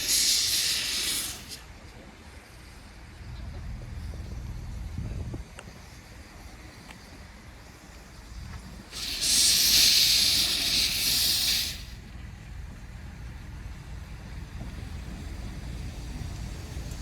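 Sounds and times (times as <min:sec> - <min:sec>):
locomotive steam hiss: 0:00.0 - 0:17.0.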